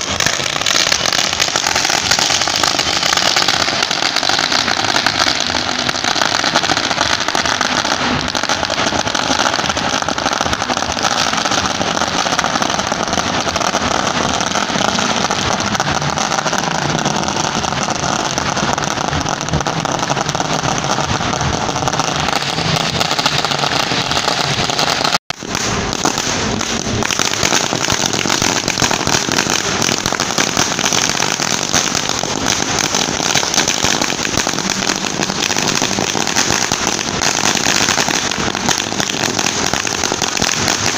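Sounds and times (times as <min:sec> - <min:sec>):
firecrackers crackling: 0:00.0 - 0:40.9.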